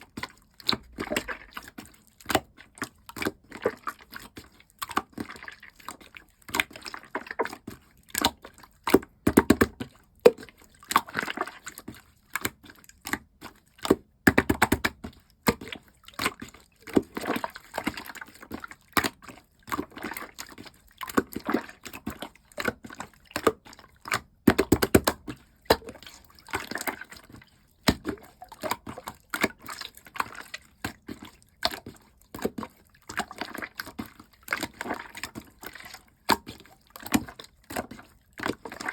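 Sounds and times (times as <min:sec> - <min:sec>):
slime squelching and popping: 0:00.1 - 0:34.0.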